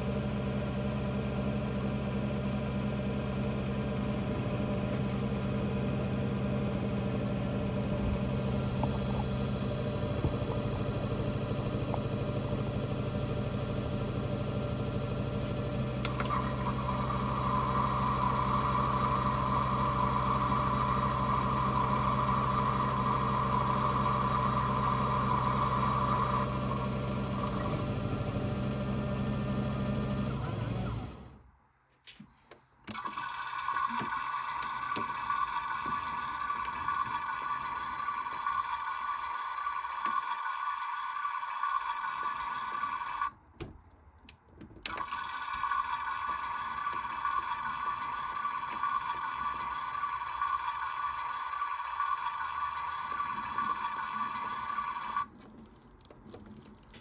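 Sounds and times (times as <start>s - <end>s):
washing machine motor hum: 0.0s - 31.4s, 32.9s - 43.3s, 44.9s - 55.4s.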